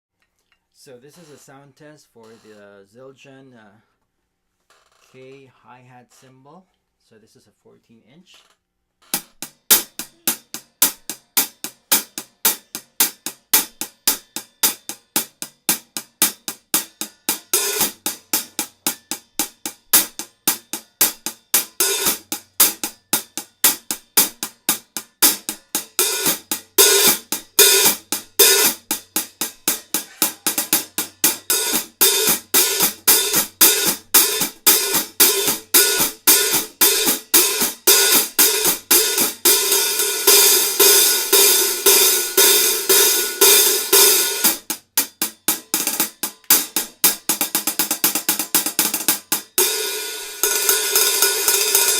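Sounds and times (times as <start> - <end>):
hi-hat cymbals struck: 9.7 - 51.9.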